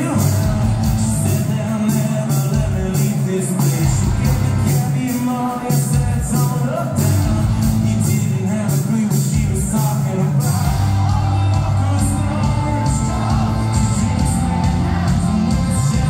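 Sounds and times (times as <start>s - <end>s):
bass guitar: 0.0s - 16.0s
drums with cymbal hits: 0.0s - 16.0s
electric guitars: 0.0s - 16.0s
person singing: 0.0s - 16.0s.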